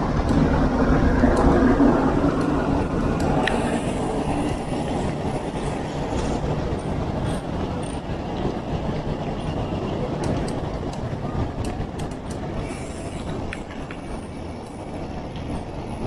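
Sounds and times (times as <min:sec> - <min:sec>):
bike tyre and road noise: 0:00.0 - 0:16.0
wind rumbling on microphone: 0:00.0 - 0:16.0.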